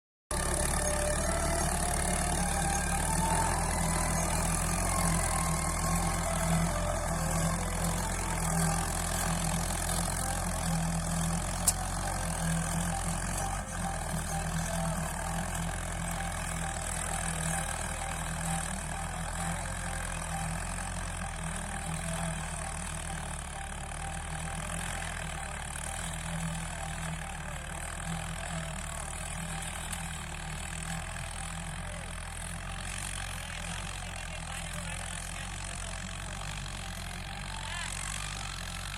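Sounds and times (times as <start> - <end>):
tractor diesel engine running: 0.3 - 38.9.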